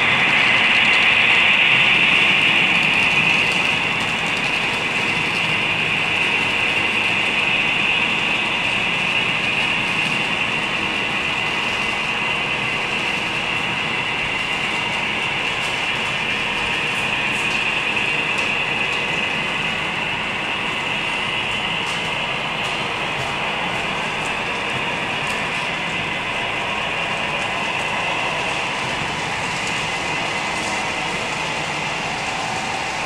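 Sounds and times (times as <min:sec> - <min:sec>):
model train whirring: 0:00.0 - 0:33.0.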